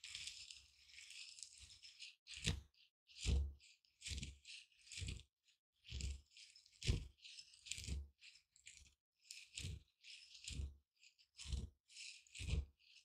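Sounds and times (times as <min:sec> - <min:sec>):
mortar and pestle grinding seeds: 0:00.0 - 0:13.0.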